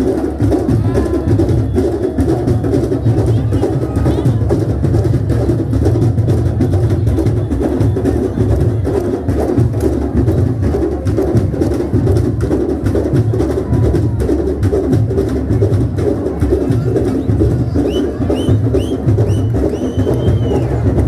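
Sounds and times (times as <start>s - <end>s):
drum ensemble playing: 0.0s - 21.0s.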